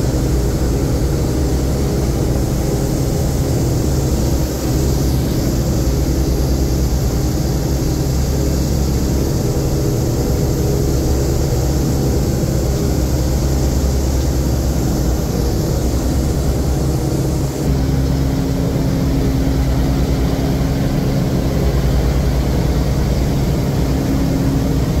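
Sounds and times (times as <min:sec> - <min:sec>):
aircraft radial engines droning: 0:00.0 - 0:25.0.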